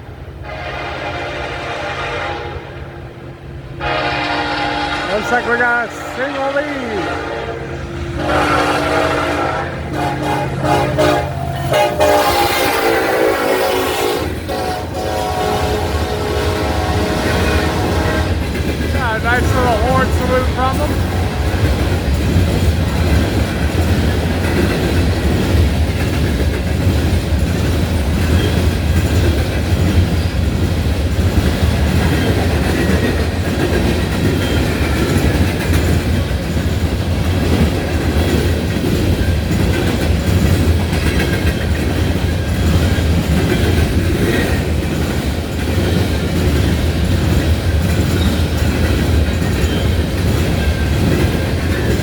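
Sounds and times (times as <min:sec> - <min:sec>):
train wheels clattering over rails: 0:08.0 - 0:52.0.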